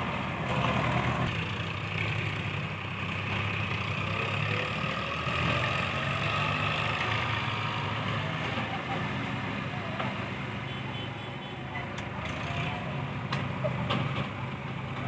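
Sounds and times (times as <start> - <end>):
heavy machinery diesel engine running: 0.0 - 15.0.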